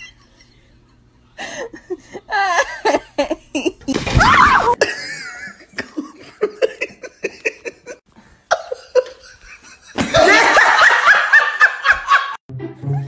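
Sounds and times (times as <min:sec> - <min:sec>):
person laughing: 0:01.4 - 0:13.0.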